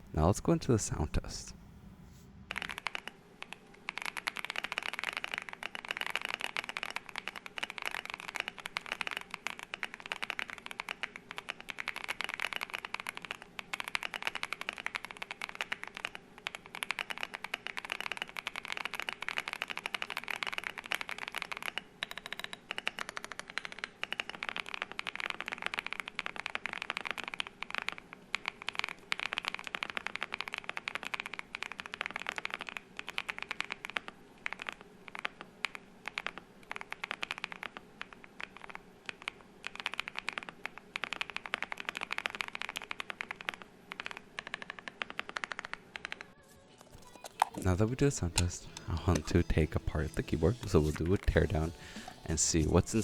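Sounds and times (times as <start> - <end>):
rapid keyboard typing: 2.5 - 46.3, 47.0 - 53.0.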